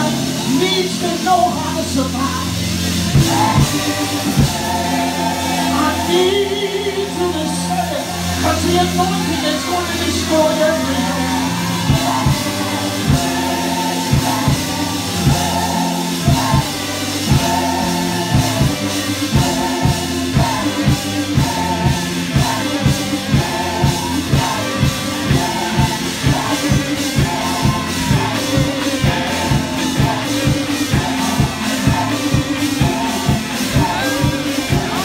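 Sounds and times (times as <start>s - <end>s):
band with bass and beat: 0.0s - 35.0s
voices singing gospel: 0.0s - 35.0s.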